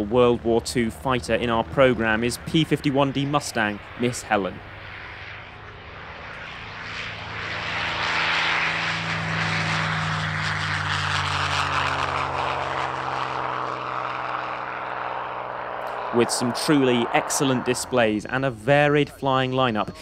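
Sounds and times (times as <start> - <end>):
propeller plane engine flypast: 0.0 - 20.0.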